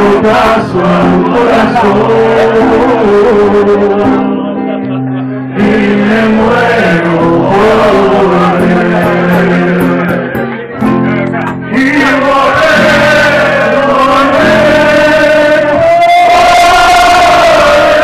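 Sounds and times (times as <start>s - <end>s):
man singing: 0.0s - 4.8s, 5.5s - 18.0s
acoustic guitar: 0.0s - 18.0s.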